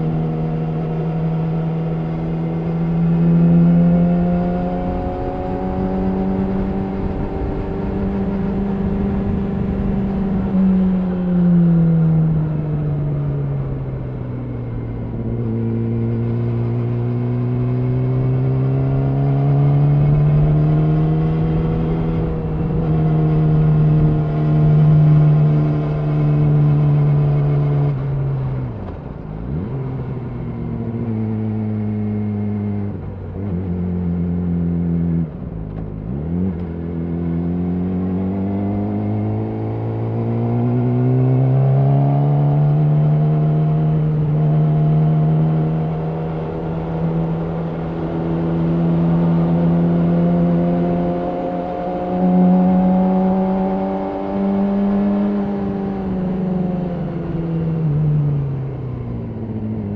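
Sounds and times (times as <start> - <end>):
sport bike engine while riding: 0.0 - 59.9.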